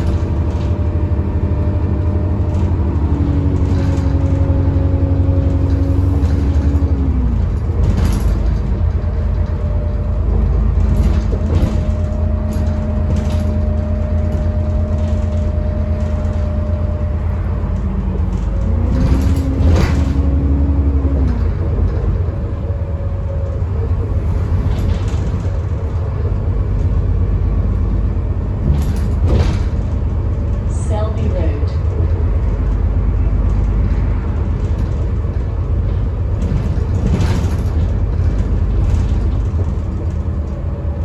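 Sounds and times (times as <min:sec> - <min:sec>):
bus engine and road rumble: 0:00.0 - 0:41.0
interior rattles: 0:00.0 - 0:41.0.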